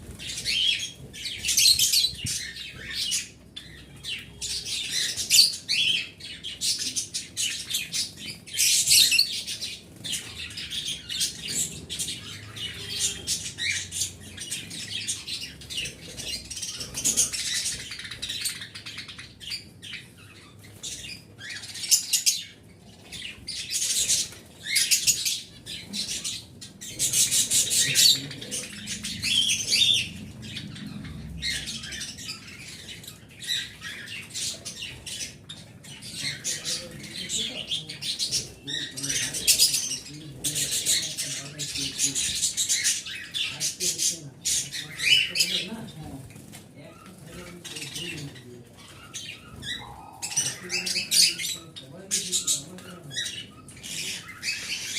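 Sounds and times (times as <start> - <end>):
small birds chirping and chattering: 0.0 - 54.9.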